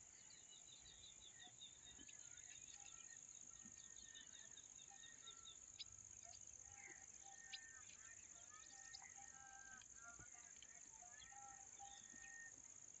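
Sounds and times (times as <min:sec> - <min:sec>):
bird chirps: 0:00.0 - 0:13.0
insects droning: 0:00.0 - 0:13.0.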